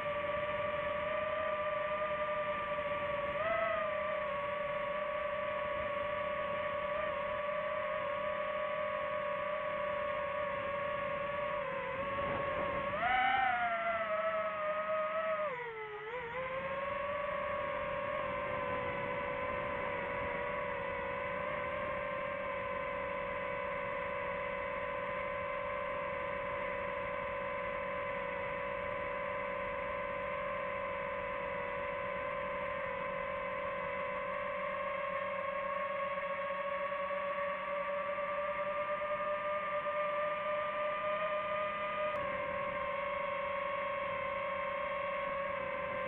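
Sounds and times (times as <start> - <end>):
drone motors whining: 0.0 - 46.0.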